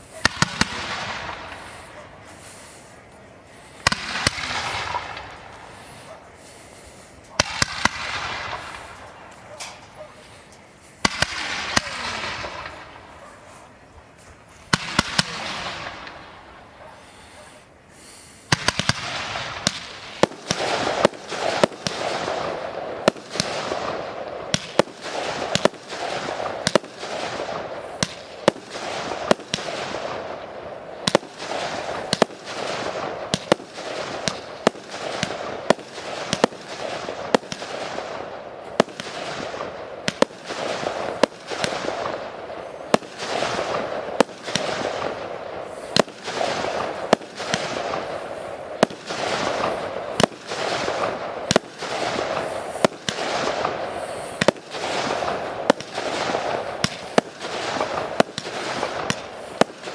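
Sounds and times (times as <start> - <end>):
firework shells bursting: 0.0 - 59.9.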